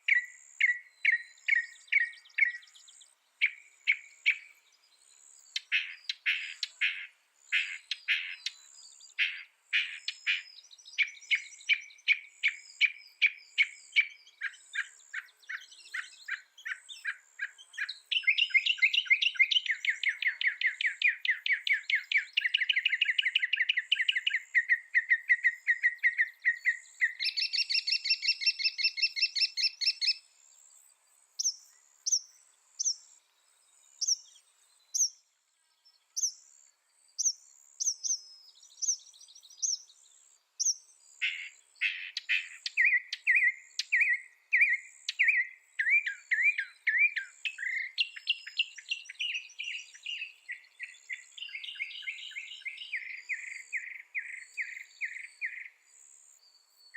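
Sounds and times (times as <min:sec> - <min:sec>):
mockingbird singing: 0:00.0 - 0:04.7, 0:05.5 - 0:30.2, 0:31.4 - 0:33.1, 0:34.0 - 0:35.2, 0:37.2 - 0:40.0, 0:40.6 - 0:55.8.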